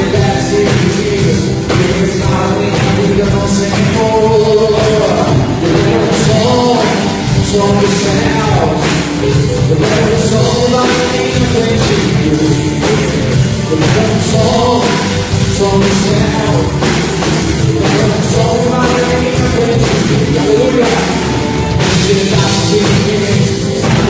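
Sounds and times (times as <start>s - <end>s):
drums: 0.0s - 24.0s
person singing: 0.0s - 24.0s
rock band music: 0.0s - 24.0s.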